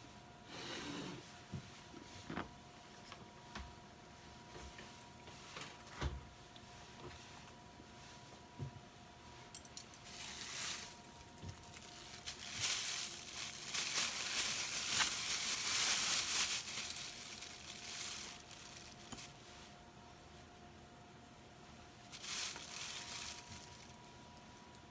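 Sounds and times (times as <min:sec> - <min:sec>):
faint steady hum: 0:00.0 - 0:24.9
rustling and crinkling handling: 0:01.4 - 0:20.6, 0:21.6 - 0:24.9.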